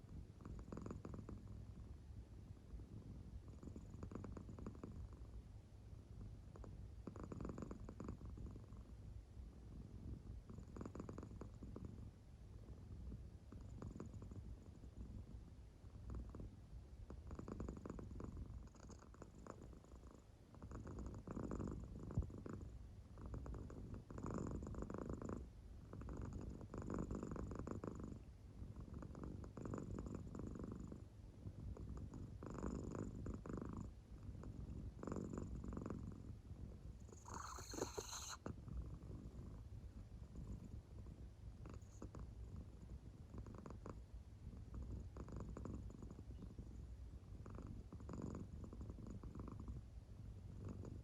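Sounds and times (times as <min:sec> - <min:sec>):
cat purring: 0:00.0 - 0:51.0.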